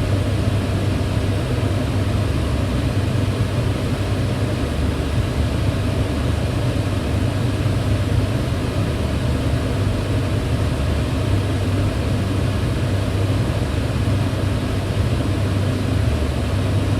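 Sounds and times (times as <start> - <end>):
range hood fan humming: 0.0 - 16.9.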